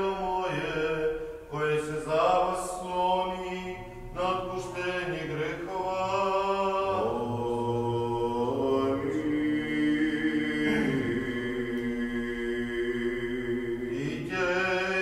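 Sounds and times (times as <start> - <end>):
men chanting unaccompanied: 0.0 - 15.0.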